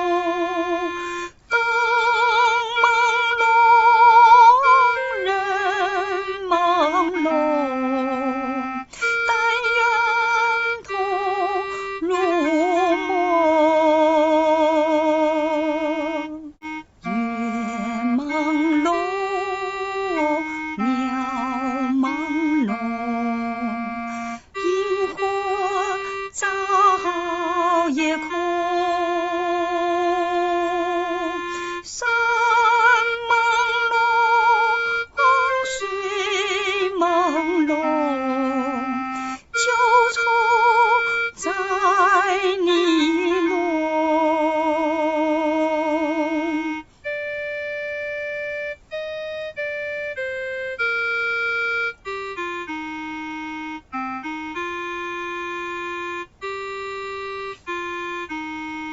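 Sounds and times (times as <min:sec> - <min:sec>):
woman singing with vibrato: 0:00.0 - 0:47.2
electronic keyboard melody: 0:00.0 - 0:58.9.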